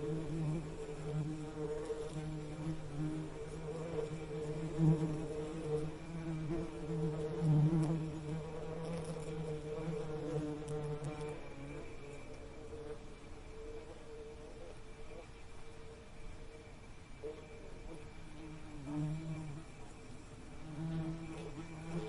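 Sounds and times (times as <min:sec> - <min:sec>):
bee buzzing: 0:00.0 - 0:15.2, 0:17.2 - 0:22.0.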